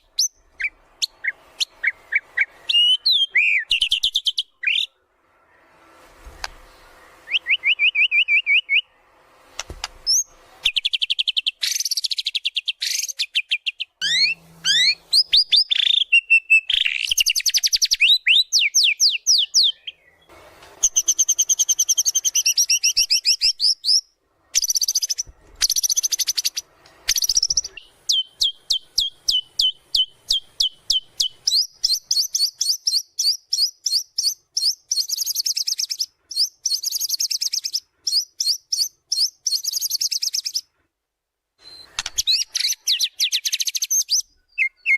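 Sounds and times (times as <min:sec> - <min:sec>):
bird singing varied song: 0:00.0 - 0:05.0, 0:06.4 - 0:09.1, 0:10.0 - 0:40.7, 0:41.6 - 0:44.9.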